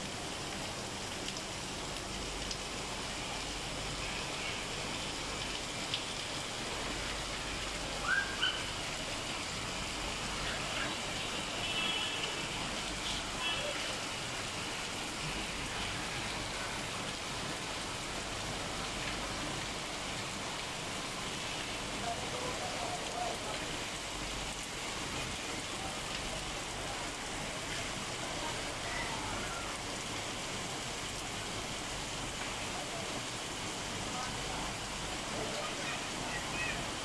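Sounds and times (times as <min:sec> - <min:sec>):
rain falling on rooftops: 0:00.0 - 0:37.0.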